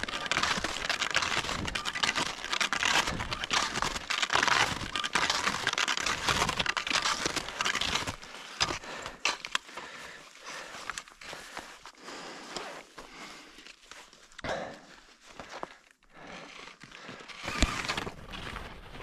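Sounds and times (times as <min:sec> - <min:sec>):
material rustling and crinkling: 0:00.0 - 0:19.0.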